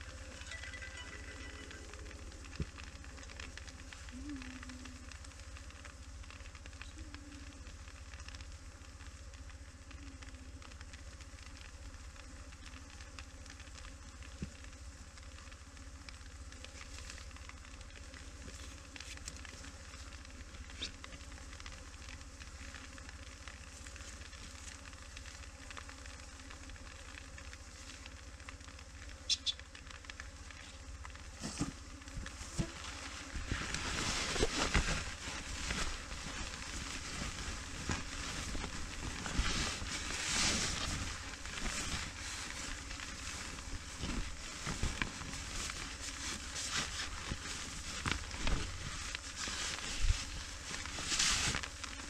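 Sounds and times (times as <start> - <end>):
crackling rustle: 0.0 - 52.0.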